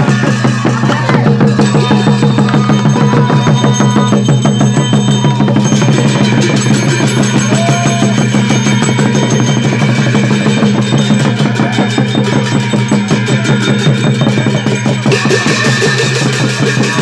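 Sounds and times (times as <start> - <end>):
brass hand cymbals clashing: 0.0 - 17.0
drum: 0.0 - 17.0.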